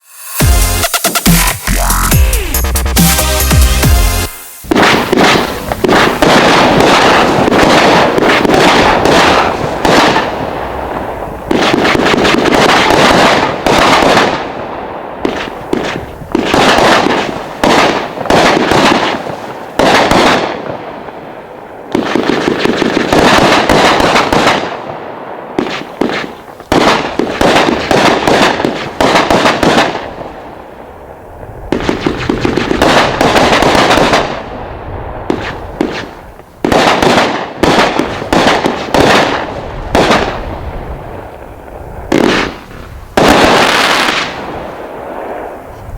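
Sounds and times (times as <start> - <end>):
firework cake firing: 4.2 - 45.9.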